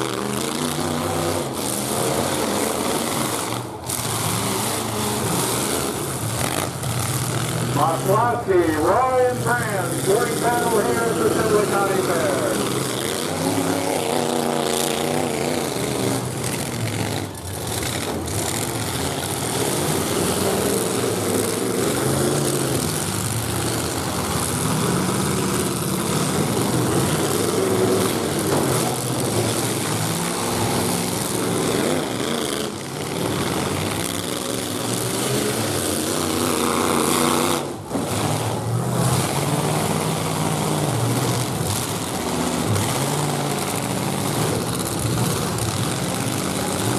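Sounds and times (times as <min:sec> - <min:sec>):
truck engines revving: 0:00.0 - 0:46.9.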